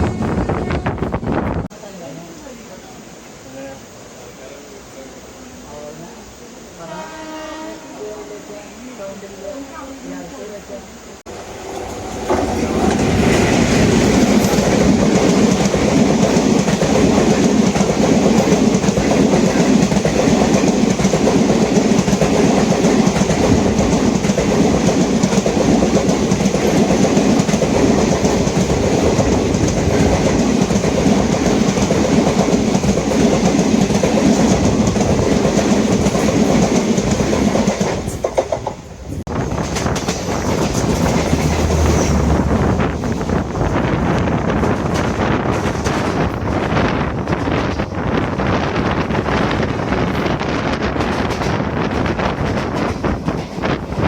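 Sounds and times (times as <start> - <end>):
train coach rumbling and rattling: 0.0 - 1.8, 11.3 - 54.0.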